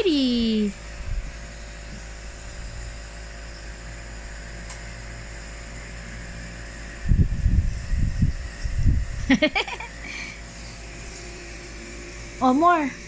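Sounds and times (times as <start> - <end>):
compressor nebulizer humming: 0.0 - 13.0.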